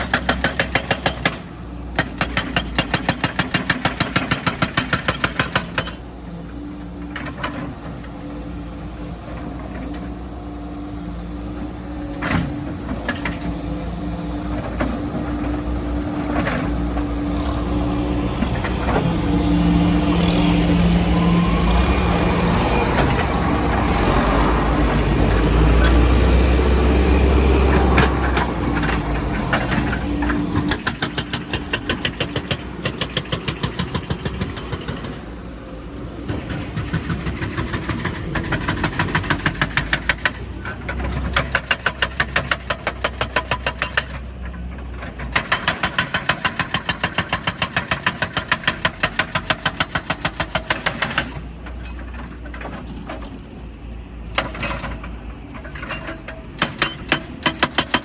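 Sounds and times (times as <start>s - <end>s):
heavy machinery engine running: 5.6s - 58.0s.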